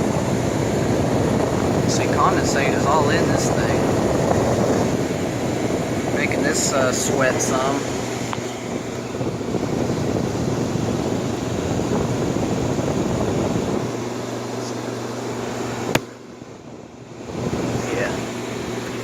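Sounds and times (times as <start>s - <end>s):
air conditioner fan humming: 0.0s - 19.0s.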